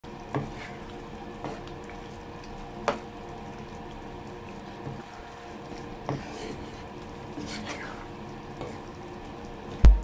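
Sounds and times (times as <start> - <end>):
curry bubbling and sizzling: 0.0 - 10.0.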